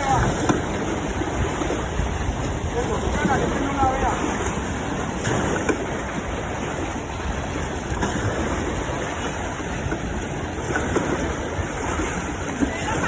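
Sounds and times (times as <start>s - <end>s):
surf: 0.0s - 13.0s
wind: 0.0s - 13.0s.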